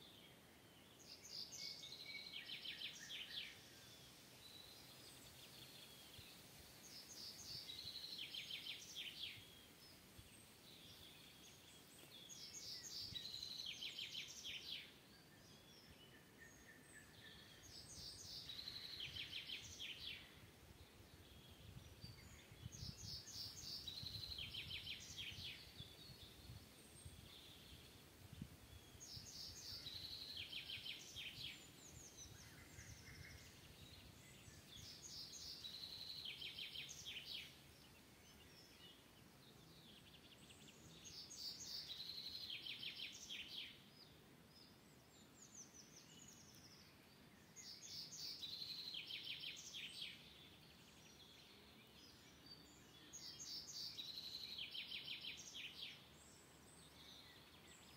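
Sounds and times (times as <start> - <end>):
faint forest background: 0.0 - 57.9
songbird singing: 0.0 - 57.9.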